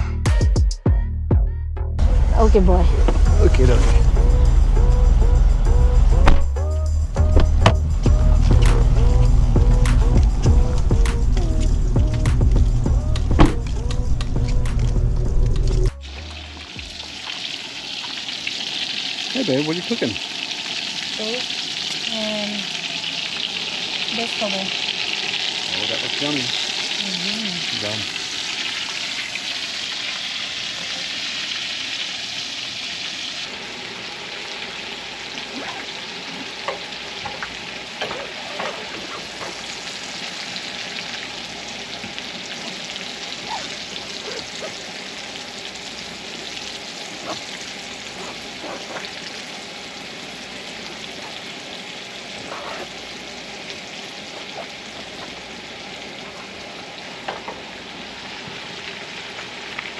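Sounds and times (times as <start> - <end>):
vegetables sizzling in a frying pan: 7.2 - 59.9.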